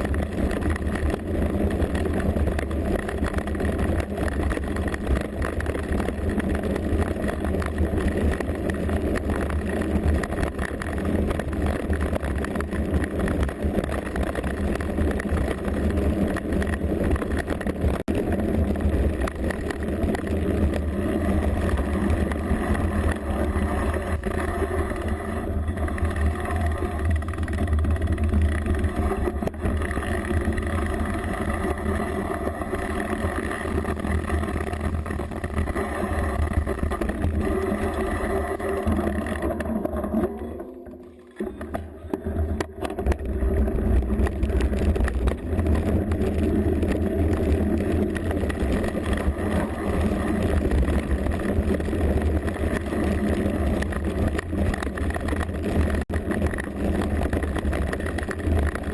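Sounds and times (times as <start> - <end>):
bike rattling over stones: 0.0 - 40.6, 41.3 - 58.9
wind rumble on microphone: 0.0 - 58.9.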